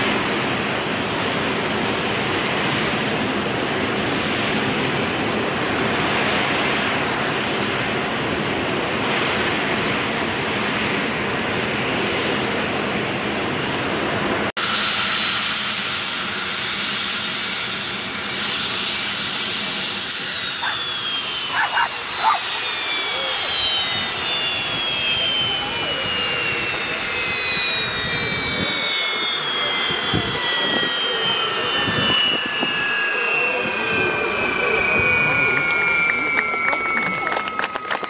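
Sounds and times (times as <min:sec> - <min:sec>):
turbojet engine whine and rush: 0:00.0 - 0:38.0.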